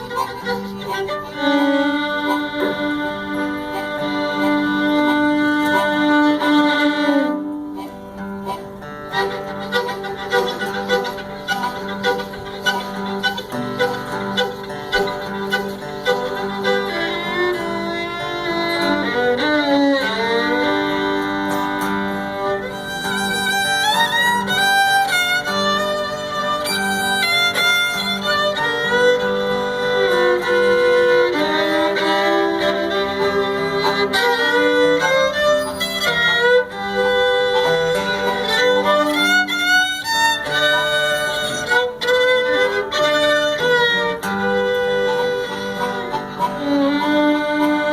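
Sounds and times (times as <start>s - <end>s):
fiddle imitating train sounds: 0.0s - 47.9s.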